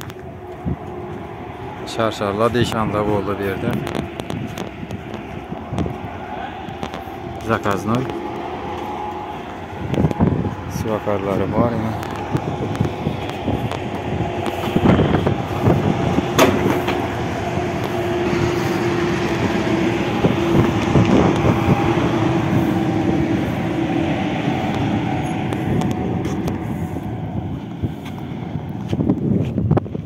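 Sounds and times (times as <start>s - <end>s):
heavy vehicle engine hum: 0.0s - 30.0s
tyre and road noise: 0.0s - 30.0s.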